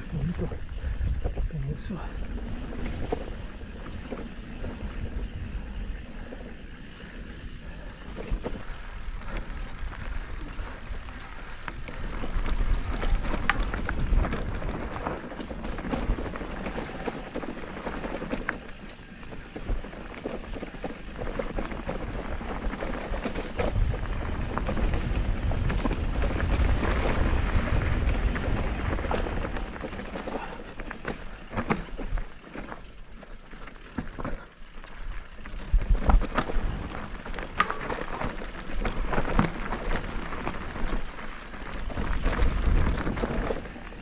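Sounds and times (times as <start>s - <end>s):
wind rumbling on microphone: 0.0s - 34.3s, 35.1s - 44.0s
bike rattling: 0.0s - 44.0s
bike tyres rolling over dirt: 0.0s - 44.0s.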